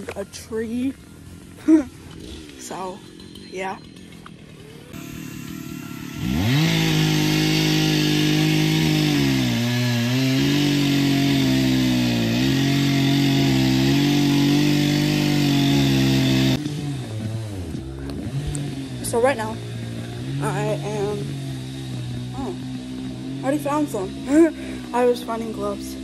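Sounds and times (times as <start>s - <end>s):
chainsaw cutting log: 2.1s - 26.0s.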